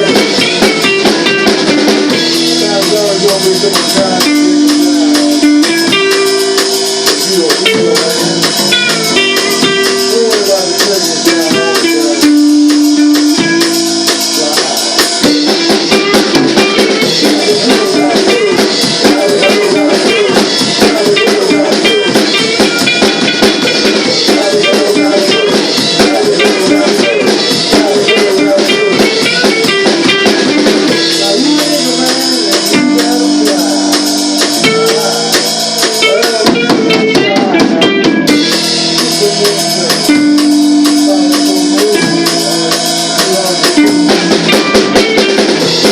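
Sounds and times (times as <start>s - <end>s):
drum kit beat: 0.0s - 45.9s
electric guitar: 0.0s - 45.9s.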